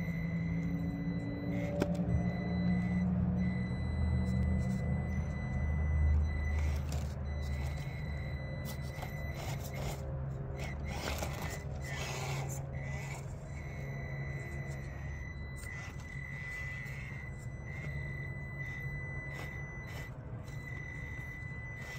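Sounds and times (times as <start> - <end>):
electric motor whine: 0.0 - 21.9.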